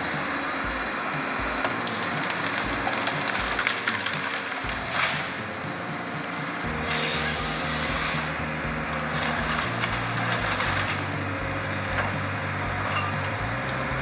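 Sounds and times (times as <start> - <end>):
logging machinery noise: 0.0 - 14.0.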